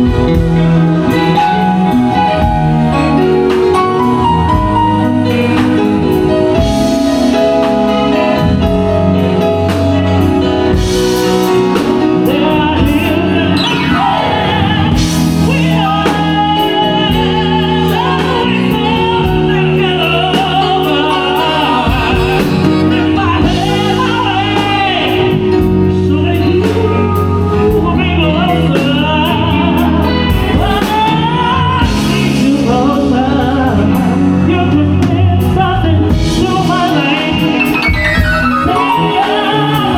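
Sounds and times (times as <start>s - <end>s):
bass notes: 0.0s - 39.9s
live band playing: 0.0s - 39.9s
person singing: 0.0s - 39.9s.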